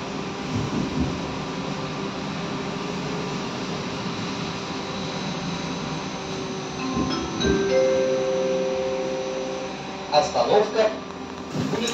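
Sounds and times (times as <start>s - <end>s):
road noise: 0.0s - 11.9s
trolleybus electric drive hum: 0.0s - 11.9s.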